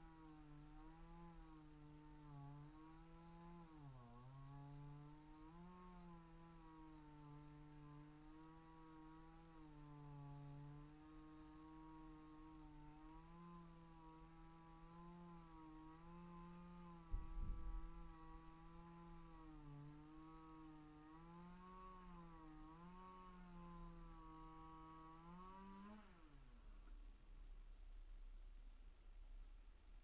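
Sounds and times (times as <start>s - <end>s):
chainsaw running faintly: 0.0s - 30.0s.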